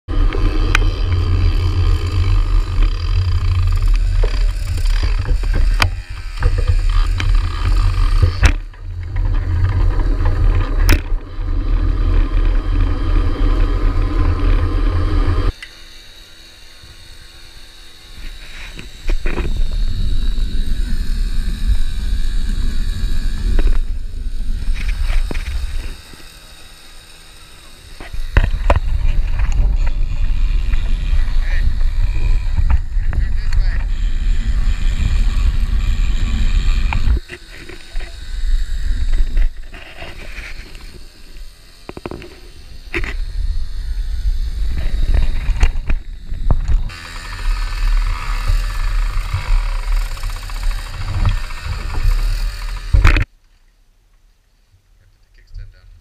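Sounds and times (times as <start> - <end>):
small engine running: 0.1 - 53.3.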